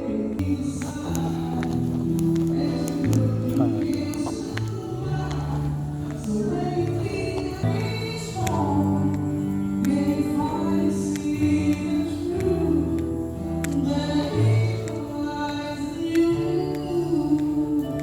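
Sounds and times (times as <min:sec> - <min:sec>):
singing voice over held chords: 0:00.0 - 0:18.0.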